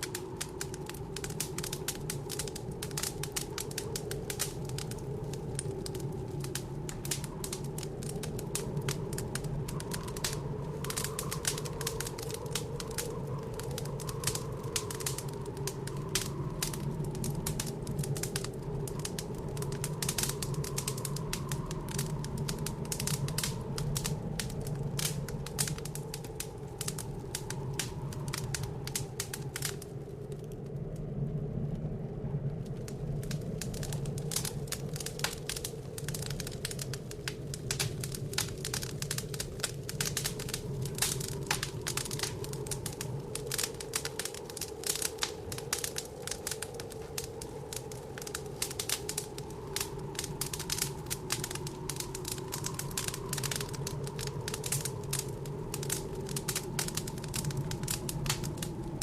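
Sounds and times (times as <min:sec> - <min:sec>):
howling blizzard wind: 0:00.0 - 0:59.0
wood fire crackling and popping: 0:00.0 - 0:59.0.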